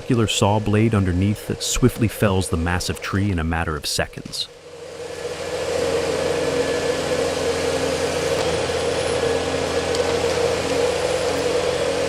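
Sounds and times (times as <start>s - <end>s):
diesel engine drone: 0.0s - 3.8s, 4.4s - 12.0s.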